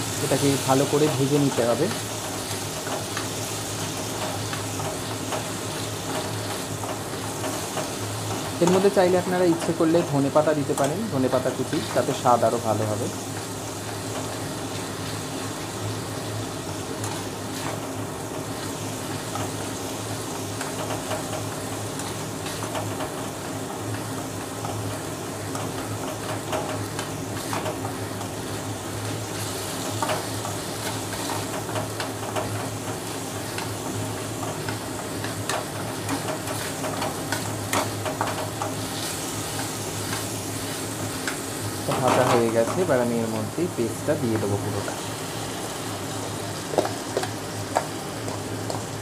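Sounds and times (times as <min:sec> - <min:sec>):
paste sizzling in hot oil: 0:00.0 - 0:49.0.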